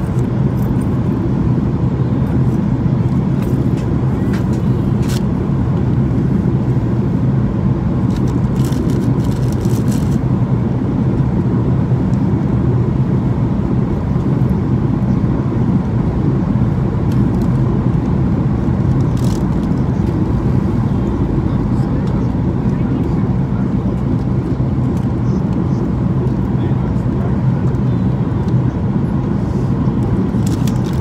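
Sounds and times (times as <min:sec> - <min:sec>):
airplane cabin roar: 0:00.0 - 0:31.0.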